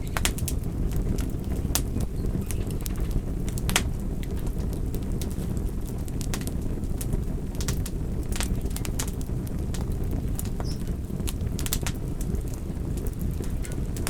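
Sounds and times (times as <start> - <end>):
low rumble of burning: 0.0 - 14.0
wind: 0.0 - 14.0
wood fire crackling and popping: 0.0 - 14.0.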